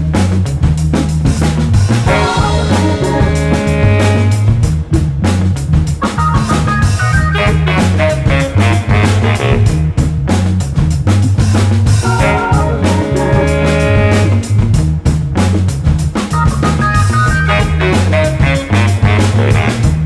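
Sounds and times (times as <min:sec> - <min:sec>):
instrumental soul band music: 0:00.0 - 0:20.0.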